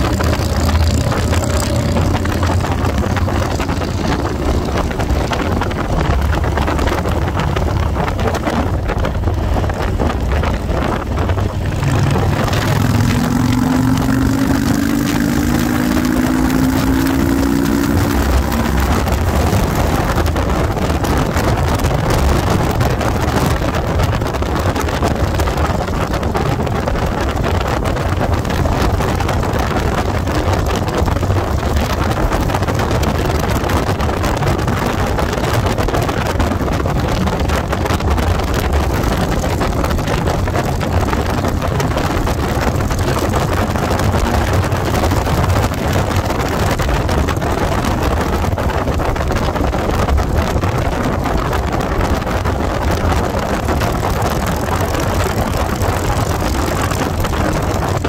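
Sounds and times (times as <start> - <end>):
motorcycle engine rumble: 0.0 - 58.0
wind rush on microphone: 0.0 - 58.0.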